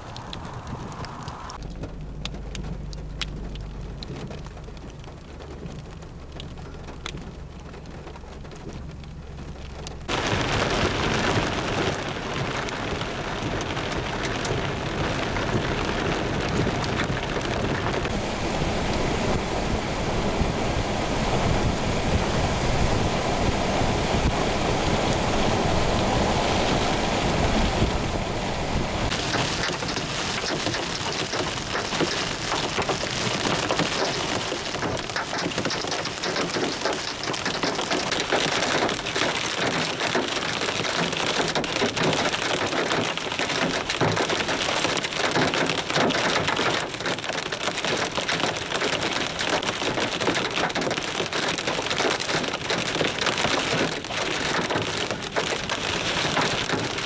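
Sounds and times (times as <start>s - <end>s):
heavy rain: 0.0s - 57.0s
wind: 0.0s - 57.0s.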